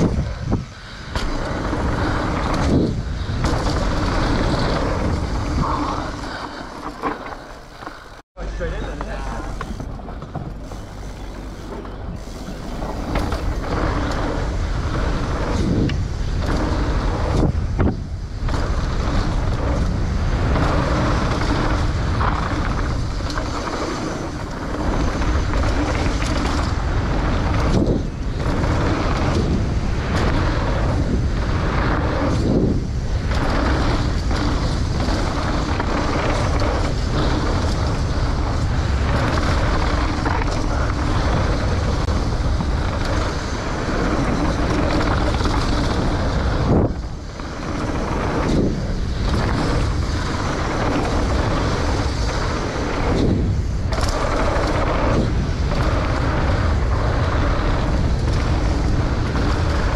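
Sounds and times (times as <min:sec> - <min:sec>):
bike tyre noise on dirt: 0:00.0 - 0:59.9
deep rumble: 0:00.0 - 0:59.9
wind buffeting microphone: 0:00.0 - 0:59.9.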